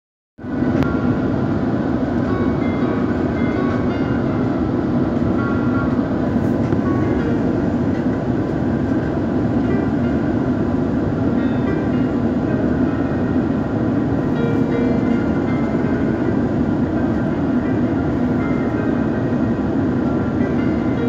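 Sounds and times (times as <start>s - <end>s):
airliner landing roar: 0.4s - 21.0s.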